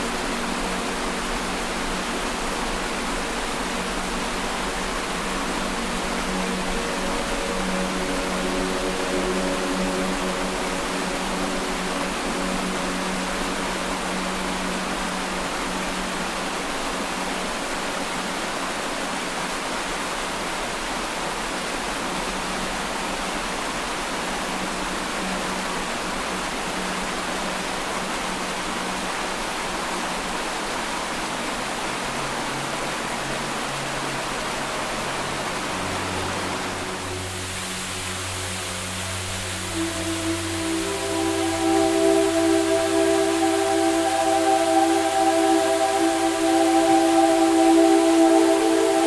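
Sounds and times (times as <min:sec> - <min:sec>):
waterfall rushing over rocks: 0:00.0 - 0:49.0.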